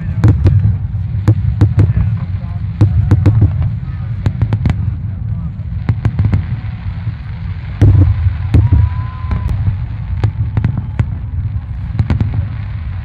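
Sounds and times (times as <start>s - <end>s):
fireworks booming: 0.0s - 13.0s
fireworks crackling: 0.0s - 13.0s.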